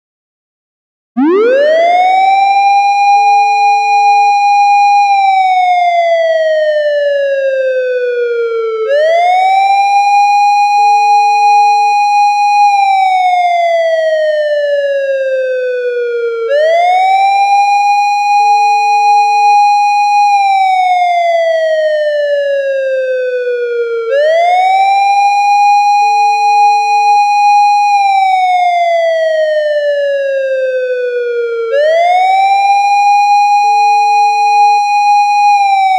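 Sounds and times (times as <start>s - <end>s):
police siren wailing: 1.2s - 35.9s.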